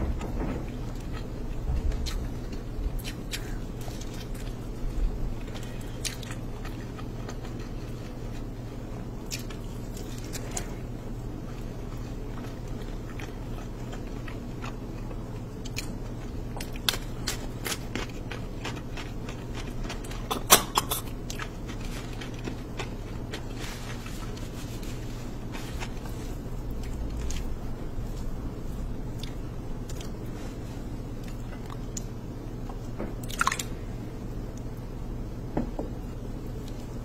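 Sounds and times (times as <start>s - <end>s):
steady low hum: 0.0s - 37.0s
person chewing: 1.0s - 33.8s.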